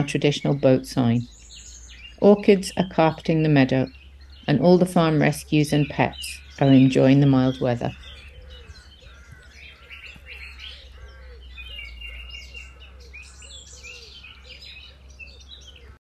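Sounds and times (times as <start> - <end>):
birdsong: 0.0 - 16.0
low steady hum: 0.0 - 16.0.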